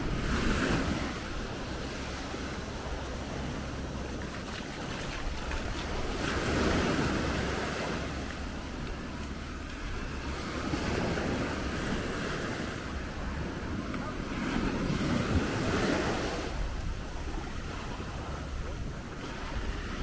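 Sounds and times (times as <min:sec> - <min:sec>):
sea waves washing in: 0:00.0 - 0:20.0
wind rumbling on microphone: 0:00.0 - 0:20.0.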